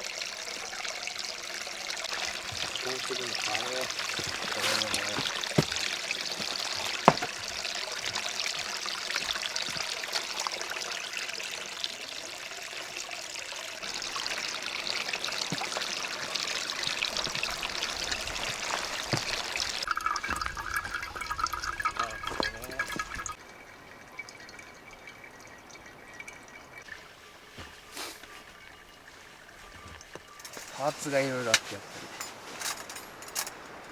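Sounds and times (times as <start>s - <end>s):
running water trickling: 0.0s - 33.9s.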